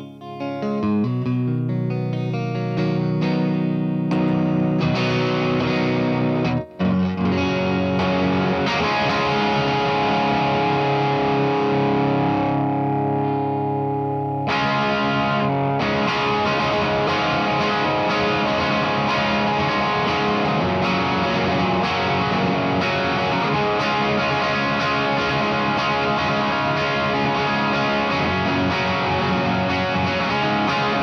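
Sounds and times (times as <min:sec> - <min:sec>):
overdriven electric guitar chords: 0:00.0 - 0:31.0.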